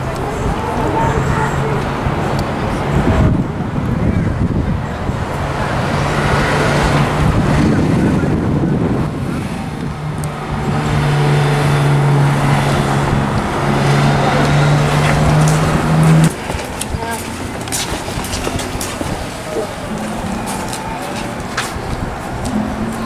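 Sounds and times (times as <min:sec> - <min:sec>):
cars driving by: 0:00.0 - 0:23.0
low engine hum: 0:00.0 - 0:23.0.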